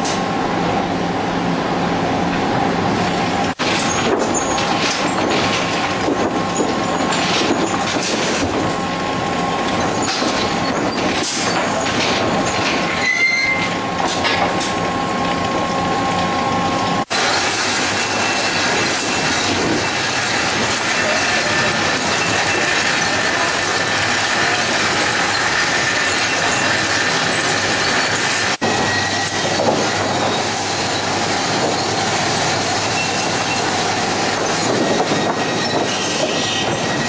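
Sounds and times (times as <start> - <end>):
machinery whine: 0.2 - 37.0
sawmill machinery din: 3.3 - 37.0
boards and chain clattering: 3.6 - 15.0, 17.4 - 37.0.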